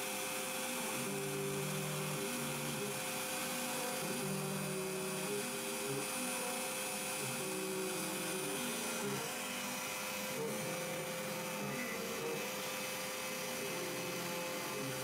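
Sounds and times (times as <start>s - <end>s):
milling machine cutting metal: 0.0s - 15.0s.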